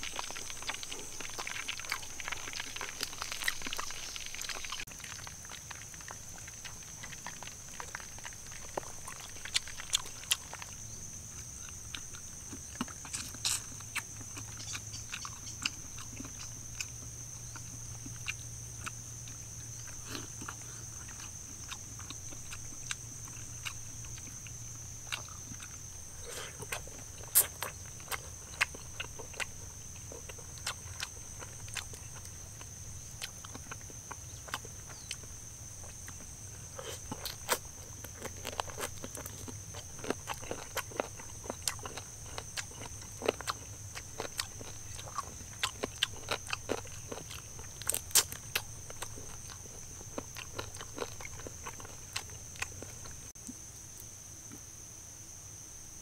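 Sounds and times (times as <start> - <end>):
crunching bites and chewing: 0.0 - 53.6.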